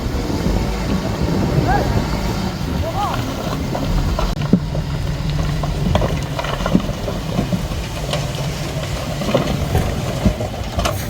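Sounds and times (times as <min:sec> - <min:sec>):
diesel earthmoving machinery running: 0:00.0 - 0:11.0.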